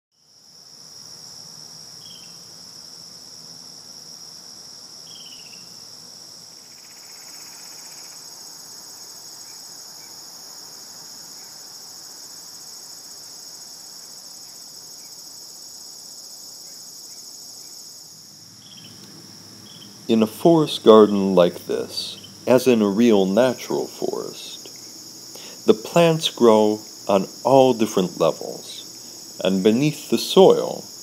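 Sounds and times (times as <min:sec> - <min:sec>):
insects trilling: 0:00.1 - 0:31.0.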